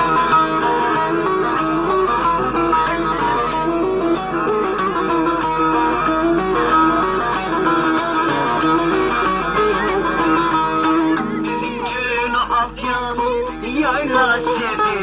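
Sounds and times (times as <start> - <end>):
plucked folk melody on lute: 0.0 - 15.0.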